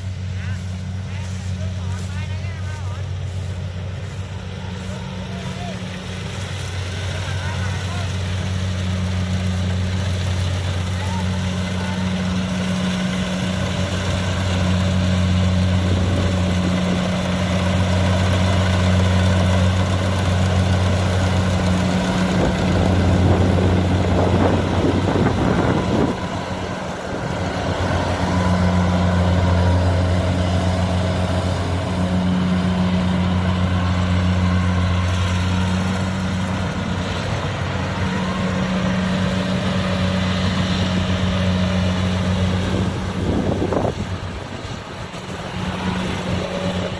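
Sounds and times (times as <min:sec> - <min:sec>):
harvester diesel engine hum: 0:00.0 - 0:46.9
loud noisy rush: 0:00.0 - 0:46.9.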